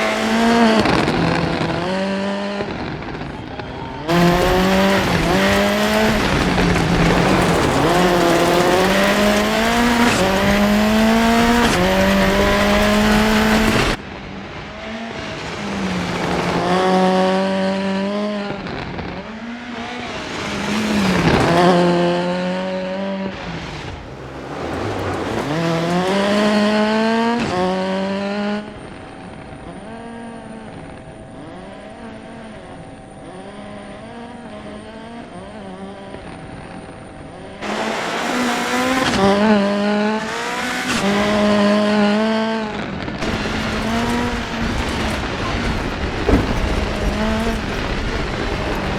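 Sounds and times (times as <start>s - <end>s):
gravel and wind noise: 0.0s - 48.9s
rally car engine revving: 0.0s - 48.9s.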